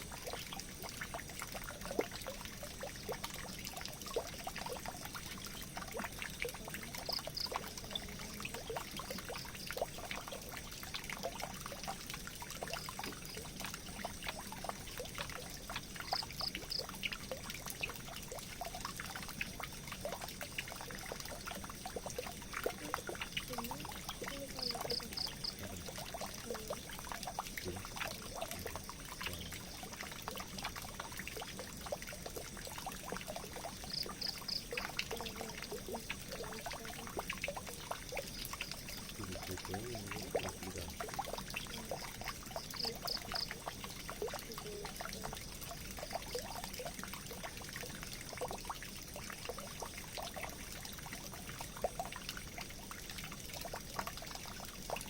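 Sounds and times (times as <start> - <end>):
water running into a drain: 0.0 - 55.0.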